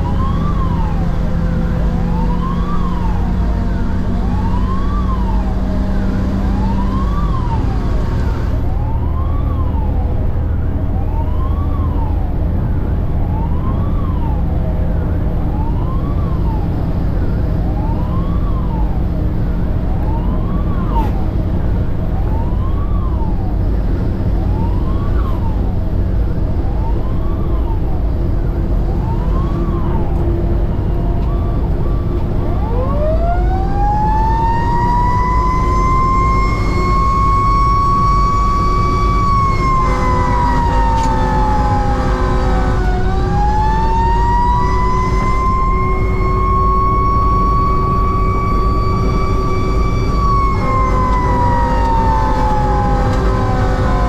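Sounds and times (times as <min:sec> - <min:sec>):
electronic siren sweeping: 0:00.0 - 0:12.4, 0:15.5 - 0:21.5, 0:24.3 - 0:54.0
fire engine horn: 0:00.0 - 0:19.0, 0:28.9 - 0:54.0
diesel engine droning: 0:00.0 - 0:54.0.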